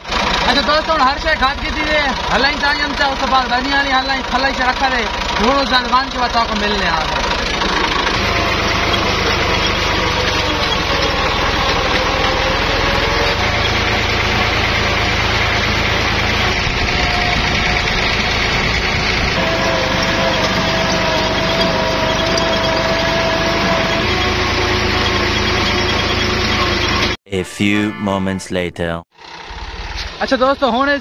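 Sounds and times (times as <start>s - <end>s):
tractor engine running: 0.0s - 27.1s.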